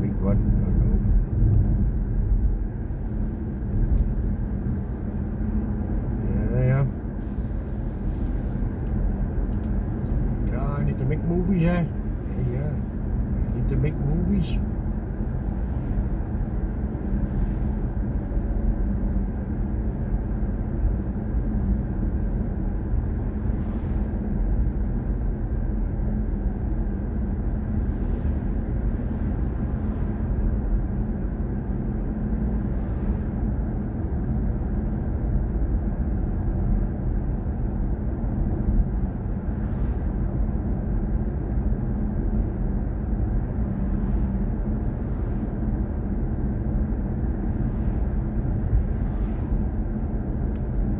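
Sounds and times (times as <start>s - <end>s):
road and tyre rumble in car: 0.0s - 50.9s.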